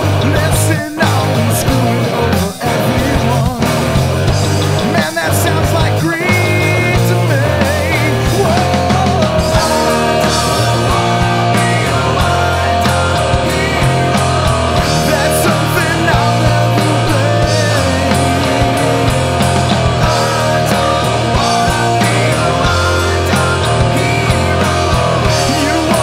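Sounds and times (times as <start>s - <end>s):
pitch-bending voice or lead line: 0.0s - 26.0s
rock band playing: 0.0s - 26.0s.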